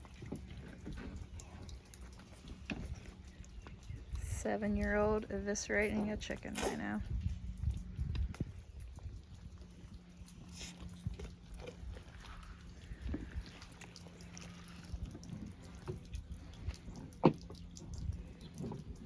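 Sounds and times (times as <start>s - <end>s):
wet squelching and dripping: 0.0s - 19.0s.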